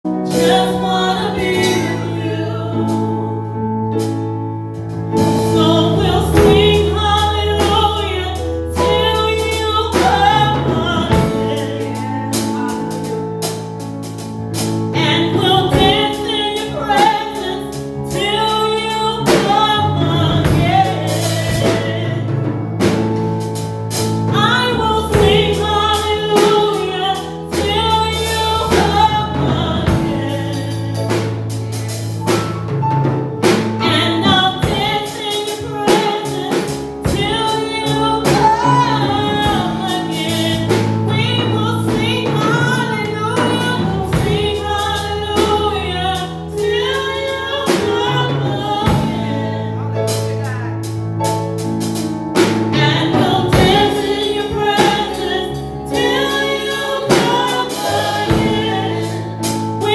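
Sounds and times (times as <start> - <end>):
woman singing gospel: 0.1 - 4.1, 5.1 - 23.2, 23.9 - 32.3, 33.5 - 50.3, 52.4 - 59.9.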